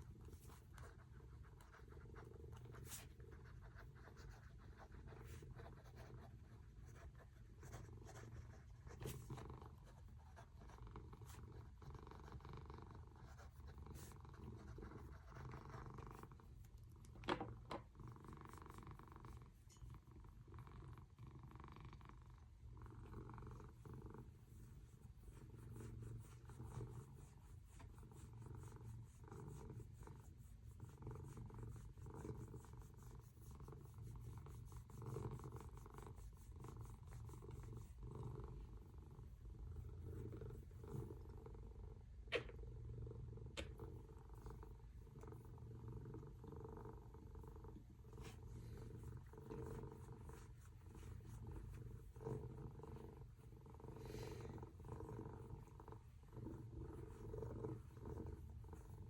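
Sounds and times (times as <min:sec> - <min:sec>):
faint low rumble: 0:00.0 - 0:59.0.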